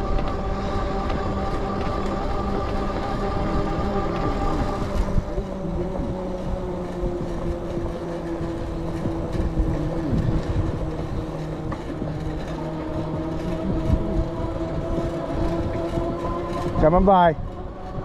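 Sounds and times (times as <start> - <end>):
electric bike motor humming: 0.0 - 18.0
tyres on path: 0.0 - 18.0
wind rumble on microphone: 0.0 - 18.0.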